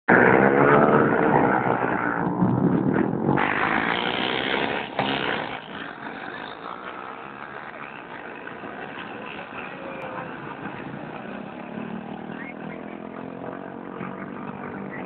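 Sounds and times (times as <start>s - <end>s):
motorcycles racing past: 0.1s - 15.0s.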